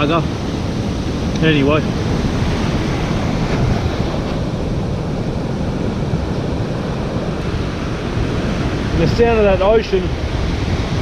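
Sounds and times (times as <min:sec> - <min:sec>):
waves crashing on beach: 0:00.0 - 0:11.0
wind buffeting microphone: 0:00.0 - 0:11.0.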